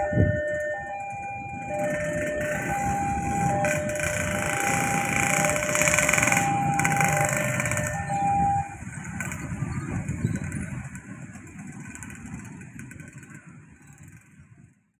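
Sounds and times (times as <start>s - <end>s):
low vehicle rumble: 0.0s - 14.8s.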